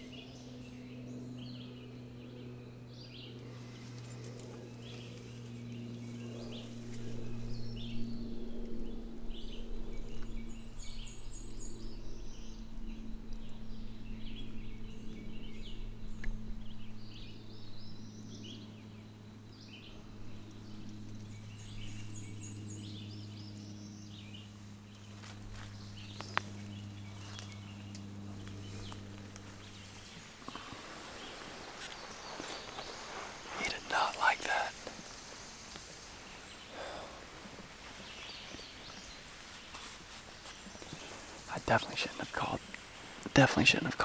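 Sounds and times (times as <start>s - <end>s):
songbirds chirping and trilling: 0.0s - 44.0s
steady low hum: 0.0s - 44.0s.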